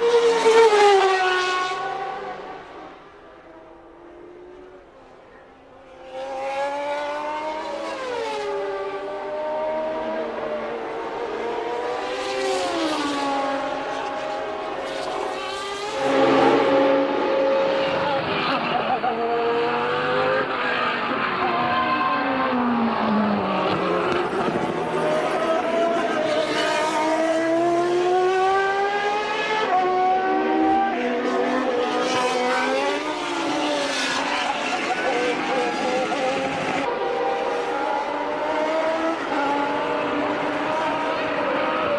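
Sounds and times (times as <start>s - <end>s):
racing car engines at high revs: 0.0s - 5.1s, 5.8s - 41.9s.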